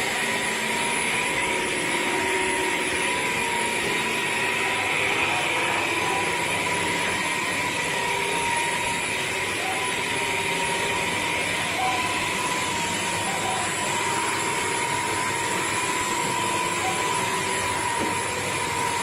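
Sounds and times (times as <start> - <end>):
floor cleaner motor whining: 0.0 - 19.0.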